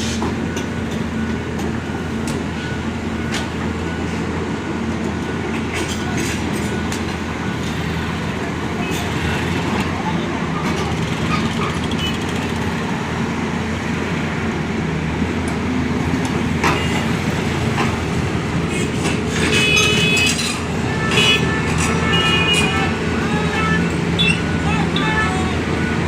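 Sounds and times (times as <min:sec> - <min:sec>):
heavy vehicle engine running: 0:00.0 - 0:26.0
road traffic noise: 0:00.0 - 0:26.0.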